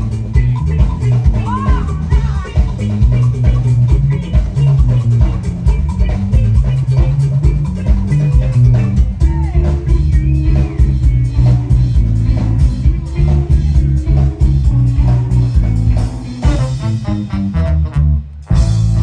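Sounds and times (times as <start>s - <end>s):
drum kit: 0.0s - 19.0s
electric guitar: 0.0s - 19.0s
heavy bass line: 0.0s - 19.0s
live band playing: 0.0s - 19.0s.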